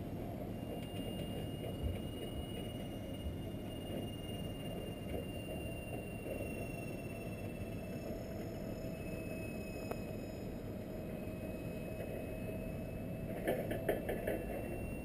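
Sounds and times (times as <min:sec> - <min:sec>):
faint thin whine: 0:00.0 - 0:15.0
jet airliner rumble overhead: 0:00.0 - 0:15.0.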